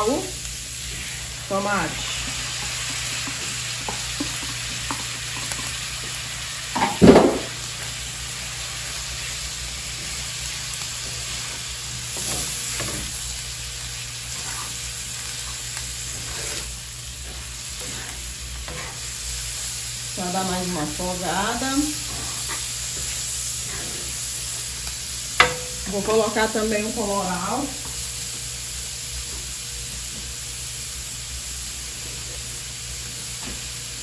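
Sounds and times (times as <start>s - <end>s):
meat sizzling on griddle: 0.0s - 34.0s.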